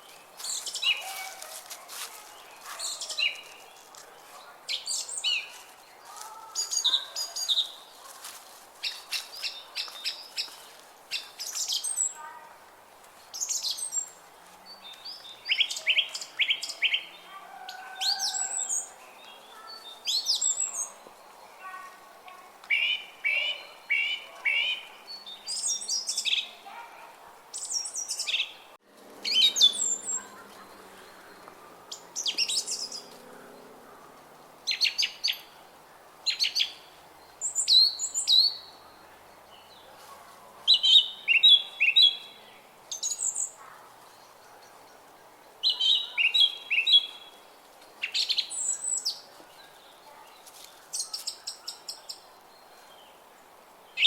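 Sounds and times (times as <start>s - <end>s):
faint steady background noise: 0.0s - 54.0s
songbirds chirping: 0.0s - 54.0s.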